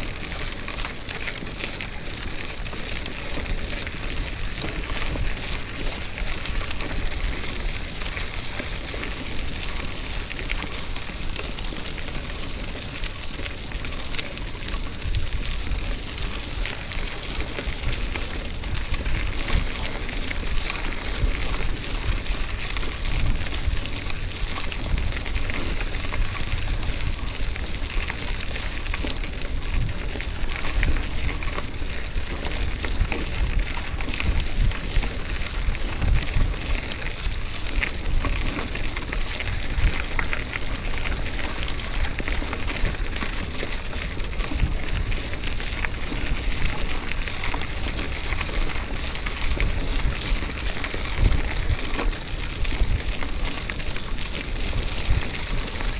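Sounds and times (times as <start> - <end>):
steady crackle: 0.0 - 55.9
wind on microphone: 3.5 - 55.9.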